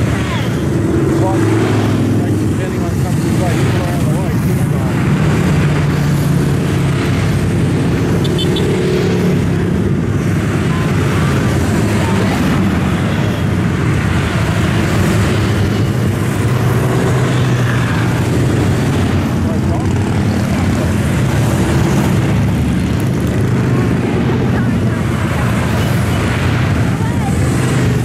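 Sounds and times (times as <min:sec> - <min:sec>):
motorcycle traffic streaming past: 0:00.0 - 0:28.0.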